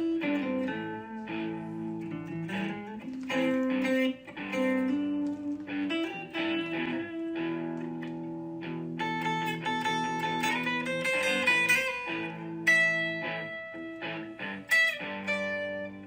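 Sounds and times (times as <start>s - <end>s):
plucked guitar tune: 0.0s - 16.0s.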